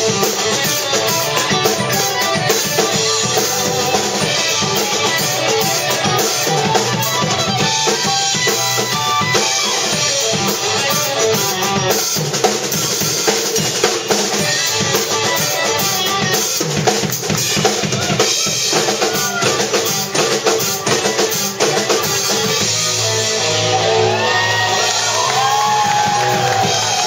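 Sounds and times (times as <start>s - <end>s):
bass guitar: 0.0s - 27.0s
drum kit playing: 0.0s - 27.0s
electric guitar: 0.0s - 27.0s
keyboard: 0.0s - 27.0s.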